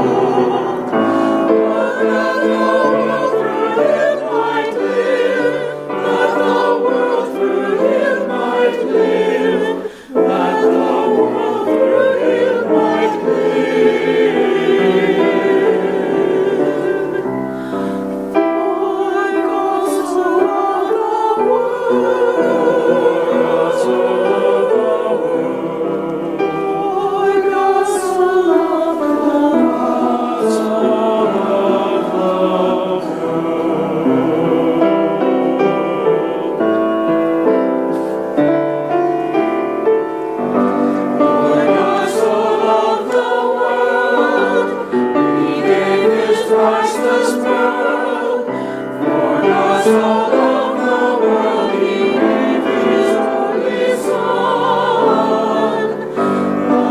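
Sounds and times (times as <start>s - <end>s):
church choir singing: 0.0s - 56.9s.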